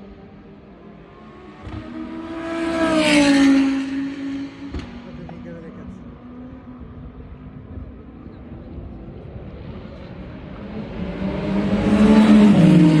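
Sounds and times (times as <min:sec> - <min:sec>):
race car engine approaching: 0:00.0 - 0:13.0.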